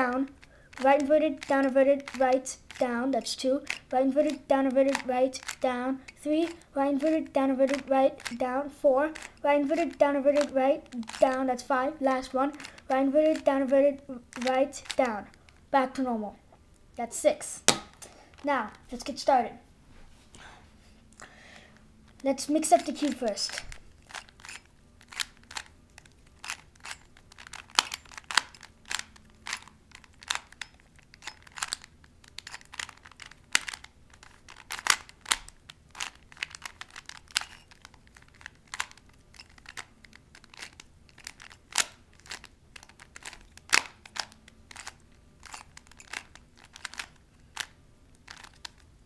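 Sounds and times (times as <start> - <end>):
puzzle cube clicking: 0.0 - 16.0, 22.1 - 48.9.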